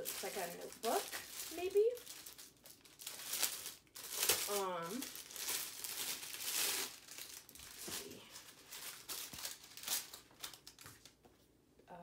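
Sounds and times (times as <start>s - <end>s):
plastic wrapping crinkling: 0.0s - 11.3s.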